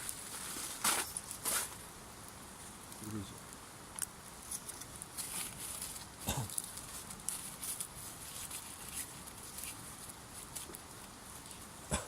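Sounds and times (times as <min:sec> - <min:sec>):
campfire crackling and popping: 0:00.0 - 0:12.0
steady hiss: 0:00.0 - 0:12.0.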